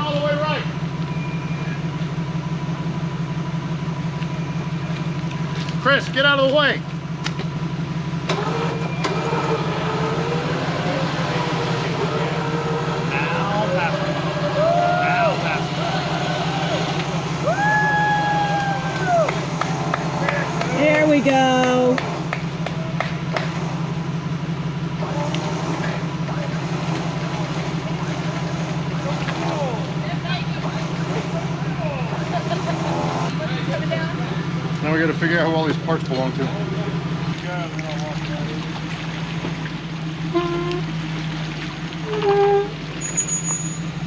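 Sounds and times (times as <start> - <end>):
vehicle engine droning: 0.0 - 44.0.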